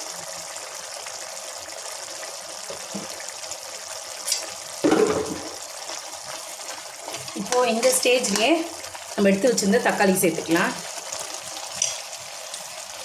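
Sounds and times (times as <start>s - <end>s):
curry simmering and bubbling: 0.0s - 13.0s.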